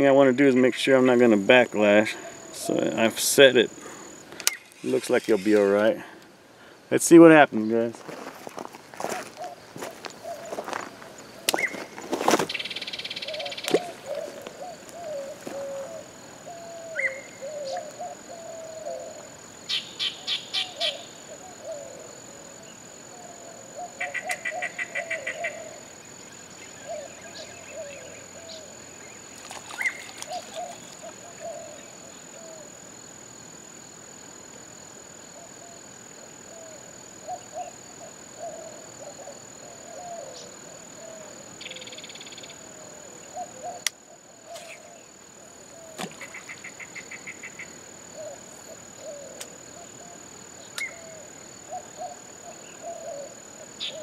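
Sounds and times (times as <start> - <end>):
birds calling: 0.0 - 6.7, 9.0 - 32.7, 36.4 - 54.0.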